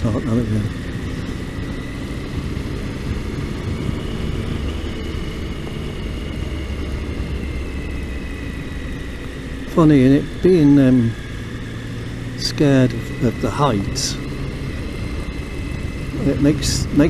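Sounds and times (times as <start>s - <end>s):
faint steady whine: 0.0s - 17.0s
motorcycle engine under way: 0.0s - 17.0s.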